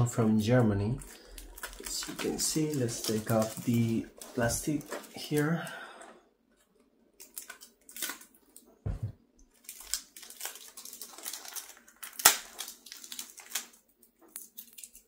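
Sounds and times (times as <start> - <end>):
cellophane crinkling: 0.4 - 6.1, 6.7 - 8.7, 9.5 - 15.0.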